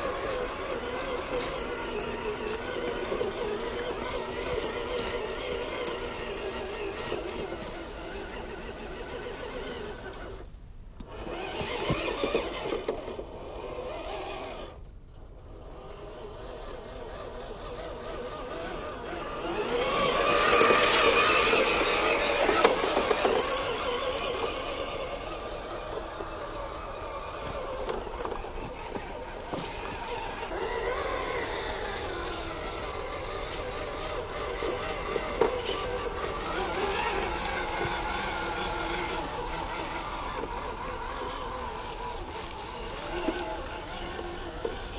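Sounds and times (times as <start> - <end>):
tyres crackling over leaves: 0.0 - 14.8, 15.4 - 44.9
toy truck motor whirring: 0.0 - 44.9.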